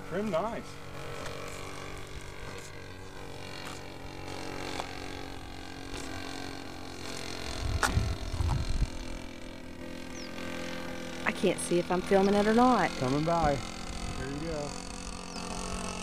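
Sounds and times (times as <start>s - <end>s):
distant model plane engine drone: 0.0s - 16.0s.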